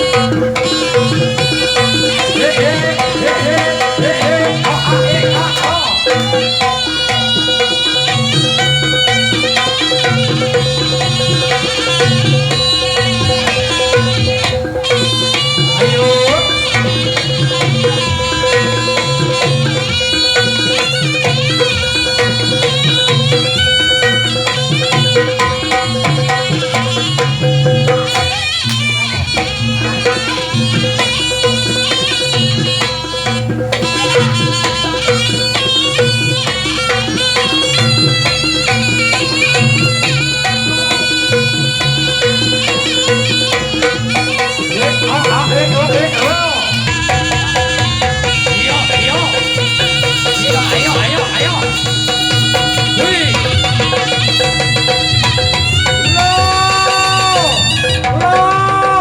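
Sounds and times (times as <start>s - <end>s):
hand drums beating: 0.0s - 59.0s
reedy wind melody: 0.0s - 59.0s.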